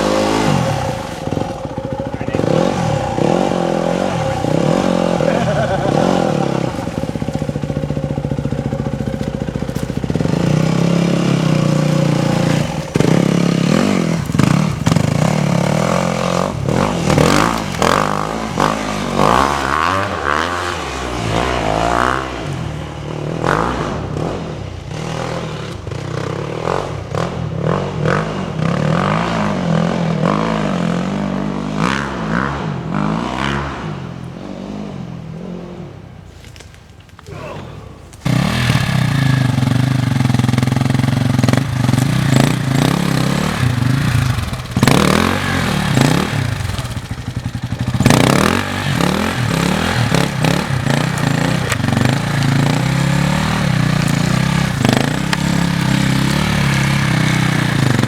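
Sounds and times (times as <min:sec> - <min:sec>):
dirt bike engine revving: 0:00.0 - 0:36.3, 0:37.3 - 0:58.0.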